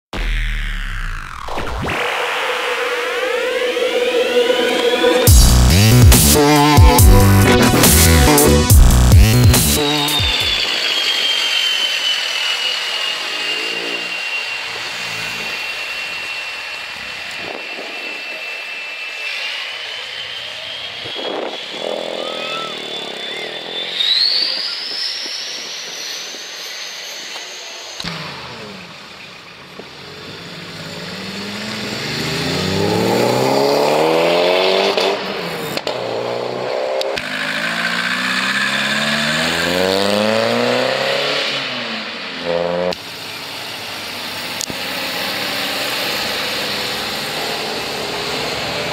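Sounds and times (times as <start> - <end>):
car engines revving: 0.1 - 48.9
high-pitched whine: 0.1 - 48.9.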